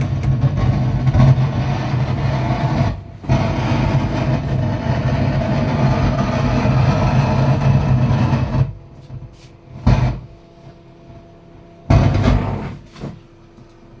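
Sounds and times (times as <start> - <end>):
speaker noisy hum: 0.0 - 14.0.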